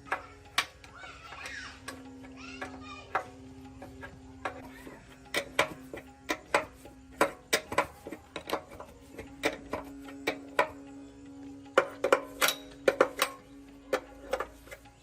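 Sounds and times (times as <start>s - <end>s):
sharp metallic clicks and taps: 0.0s - 15.0s.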